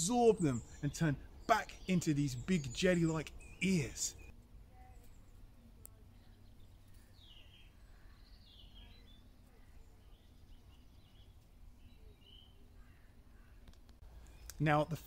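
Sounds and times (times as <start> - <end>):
soft bird chirps: 0.0 - 15.0.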